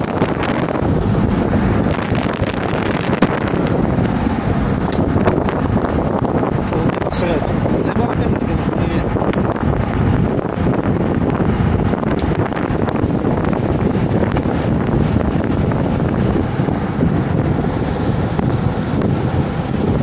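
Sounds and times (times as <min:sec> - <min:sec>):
boat hull on water: 0:00.0 - 0:20.0
boat motor: 0:00.0 - 0:20.0
wind buffeting microphone: 0:00.0 - 0:20.0.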